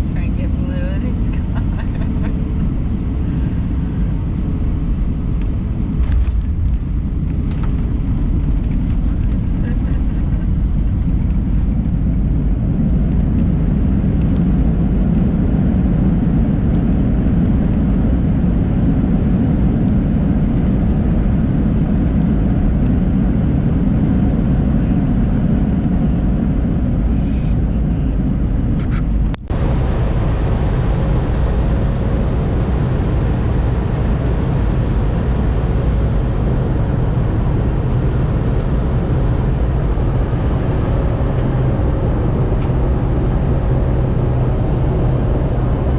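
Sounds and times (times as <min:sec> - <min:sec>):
airliner cabin engine rumble: 0:00.0 - 0:45.9.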